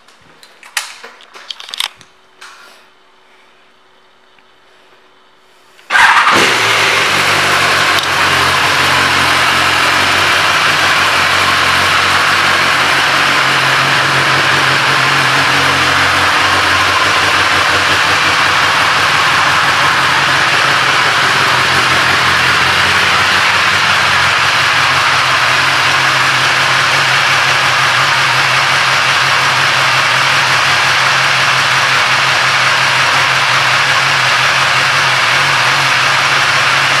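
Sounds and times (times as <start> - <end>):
motorcycle engine idling: 5.9 - 37.0.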